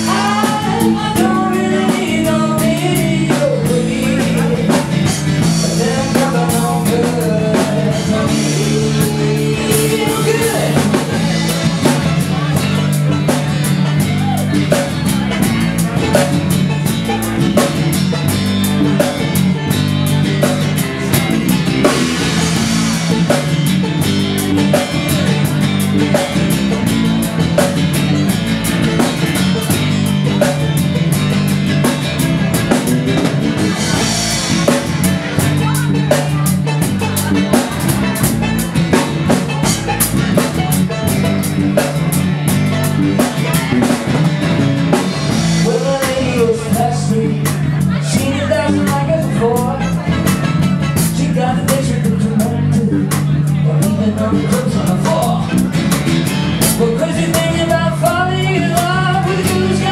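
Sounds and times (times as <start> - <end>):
drum kit: 0.0 - 59.9
guitars: 0.0 - 59.9.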